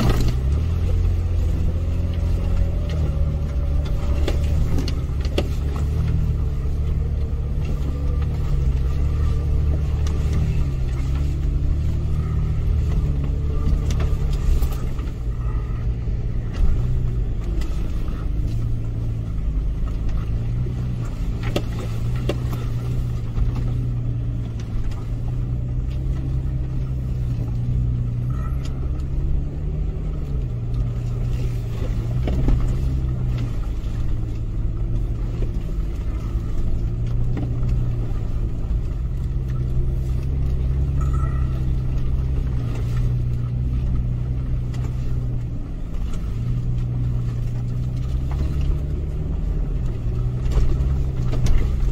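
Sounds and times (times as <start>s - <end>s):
car engine rumble from inside: 0.0s - 51.9s.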